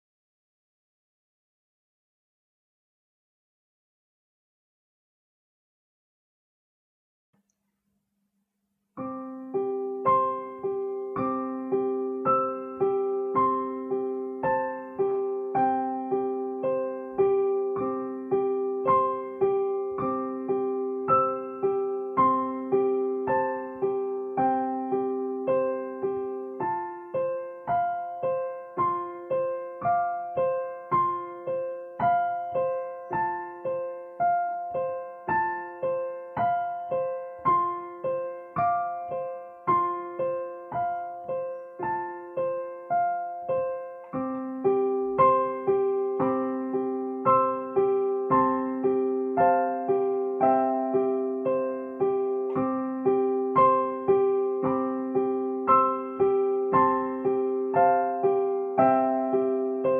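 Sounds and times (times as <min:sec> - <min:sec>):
solo piano melody: 0:09.0 - 0:59.9.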